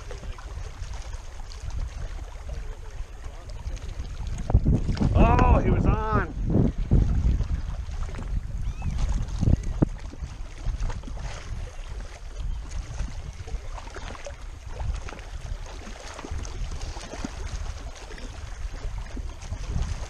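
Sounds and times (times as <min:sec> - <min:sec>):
water lapping at rocky shore: 0:00.0 - 0:20.0
wind buffeting microphone: 0:00.0 - 0:20.0.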